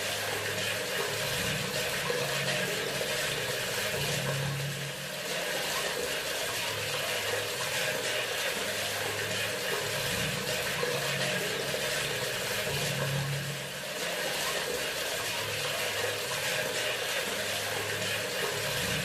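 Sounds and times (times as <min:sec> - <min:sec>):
faucet water splashing into sink: 0:00.0 - 0:19.0.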